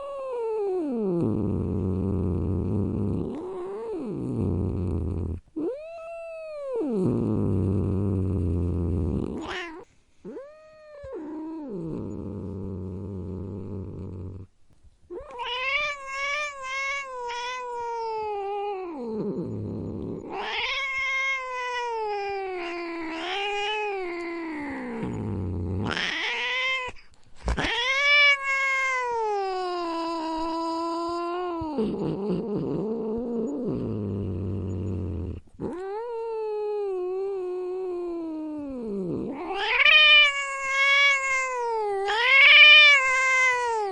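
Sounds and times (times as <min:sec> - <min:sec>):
cat growling and yowling: 0:00.0 - 0:14.5, 0:15.1 - 0:43.9.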